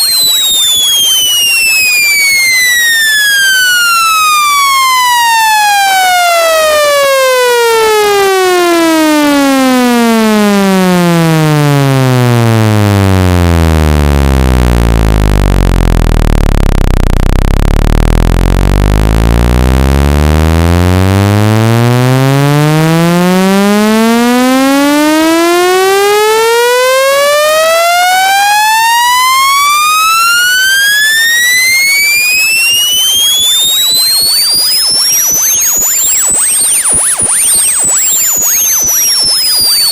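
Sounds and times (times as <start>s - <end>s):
buzzy test tone sweeping in pitch: 0.0s - 39.9s.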